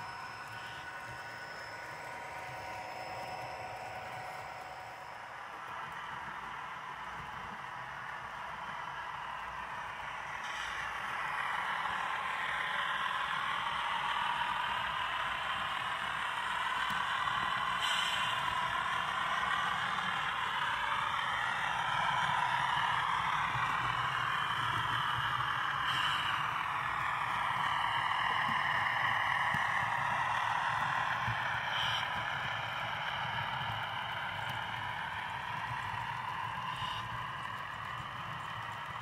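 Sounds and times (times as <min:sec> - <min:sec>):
model train motor and wheels whirring: 0:00.0 - 0:39.0.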